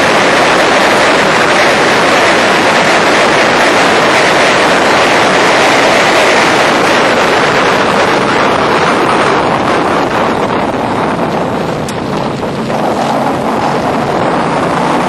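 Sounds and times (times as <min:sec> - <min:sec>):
car engine noise: 0:00.0 - 0:15.0
wind rushing on microphone: 0:00.0 - 0:15.0.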